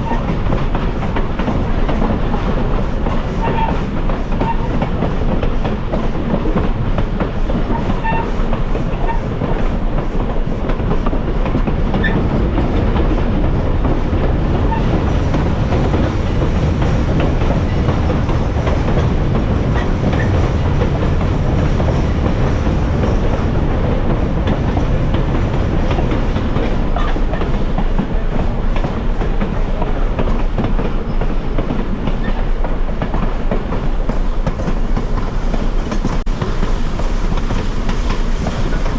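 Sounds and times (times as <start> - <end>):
clickety-clack of rail joints: 0.0 - 38.9
passenger train on rails: 0.0 - 38.9.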